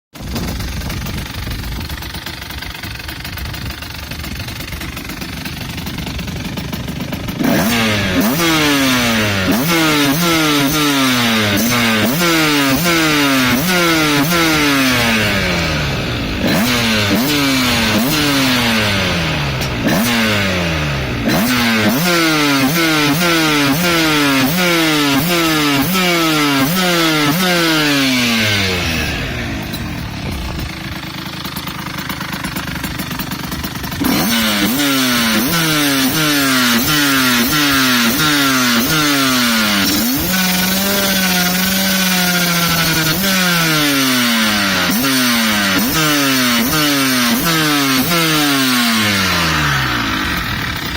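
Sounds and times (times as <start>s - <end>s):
two-stroke motorcycle engine revving: 0.1s - 50.9s.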